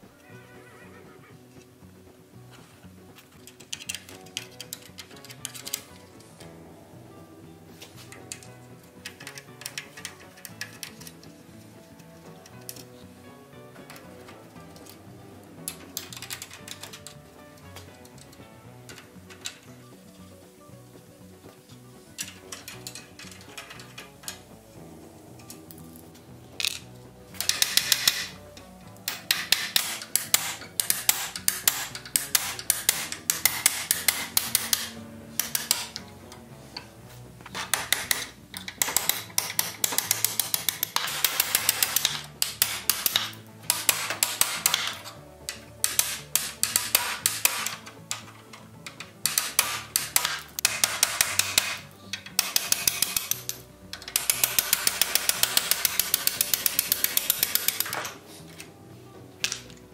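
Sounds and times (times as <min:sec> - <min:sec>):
background music: 0:00.0 - 0:59.9.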